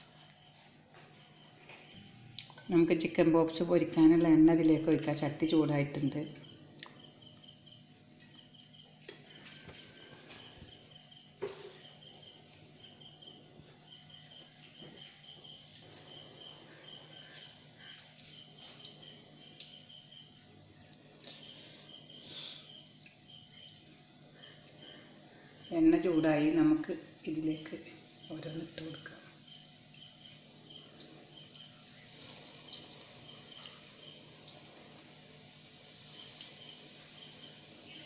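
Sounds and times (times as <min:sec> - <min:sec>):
faint insect chirping: 0:00.0 - 0:38.0.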